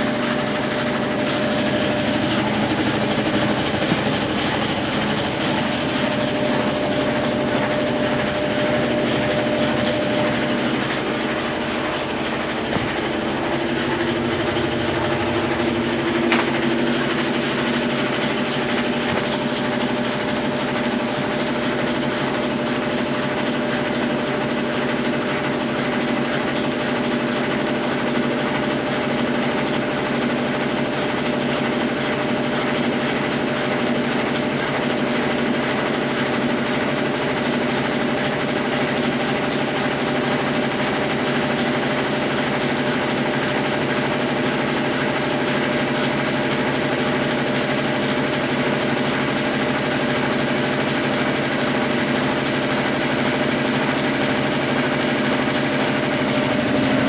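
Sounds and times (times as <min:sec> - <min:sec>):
washing machine agitator churning: 0:00.0 - 0:57.0.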